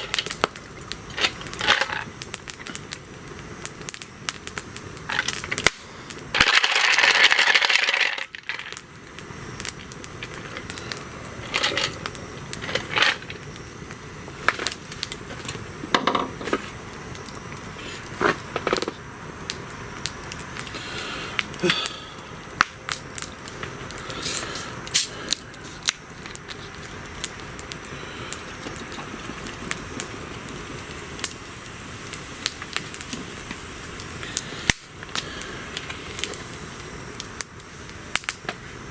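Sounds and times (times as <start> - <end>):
fire popping: 0.0 - 38.9
loud hiss: 0.0 - 38.9
wood fire crackling: 0.0 - 38.9.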